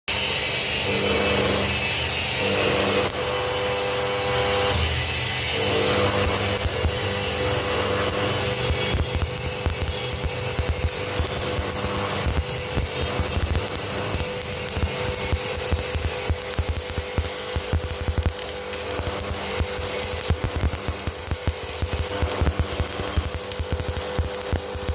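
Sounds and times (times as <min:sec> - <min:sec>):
power tool humming: 0:00.1 - 0:24.9
welding crackling: 0:00.1 - 0:24.9.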